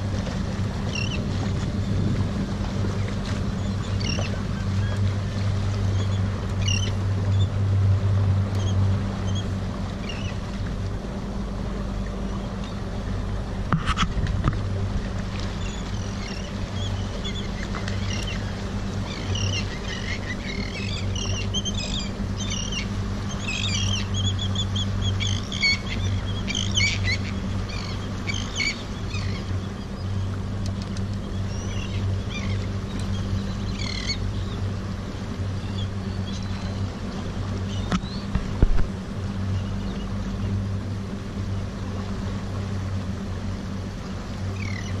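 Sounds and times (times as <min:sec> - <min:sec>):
seabirds chirping: 0:00.0 - 0:13.7, 0:14.8 - 0:45.0
outboard motor humming: 0:00.0 - 0:45.0.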